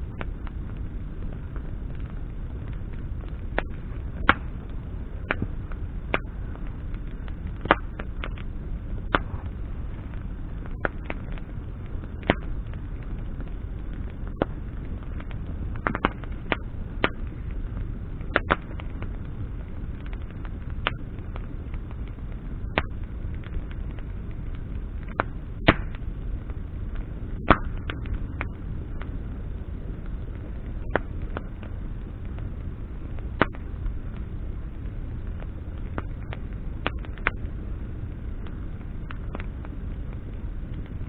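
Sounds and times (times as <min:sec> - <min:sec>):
bonfire crackling and popping: 0:00.0 - 0:41.0
low rumble: 0:00.0 - 0:41.0.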